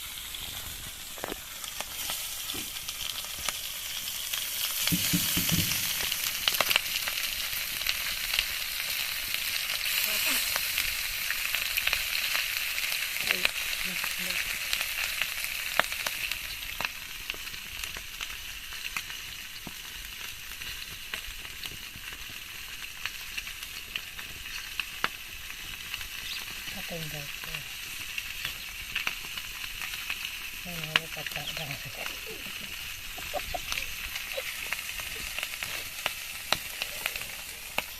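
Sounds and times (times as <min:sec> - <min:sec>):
food sizzling in oil: 0:00.0 - 0:37.9.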